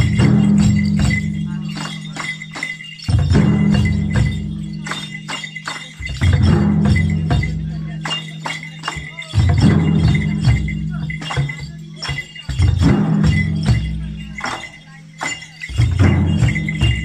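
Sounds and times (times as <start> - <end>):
barrel drums beaten in rhythm: 0.0 - 17.0.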